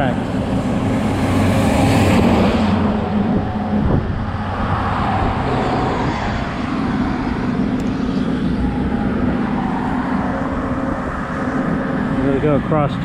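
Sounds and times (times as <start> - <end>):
bicycle road noise rumble: 0.0 - 13.0
vehicle engine hum: 0.0 - 13.0.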